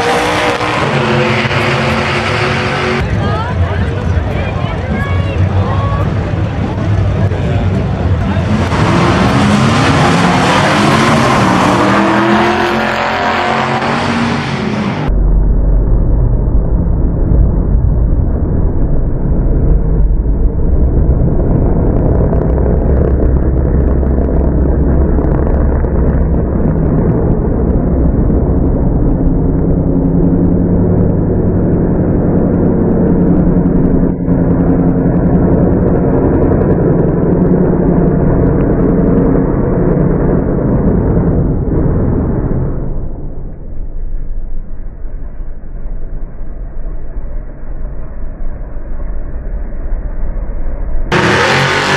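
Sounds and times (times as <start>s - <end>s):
car engine rumbling: 0.0s - 51.9s.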